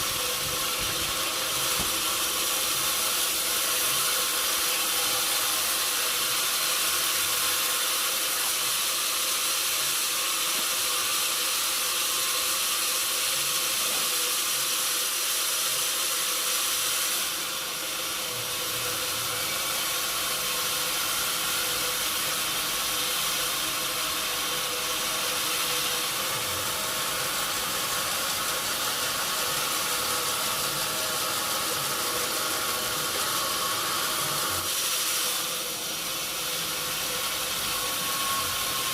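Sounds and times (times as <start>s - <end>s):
sawmill saw hissing: 0.0s - 38.9s.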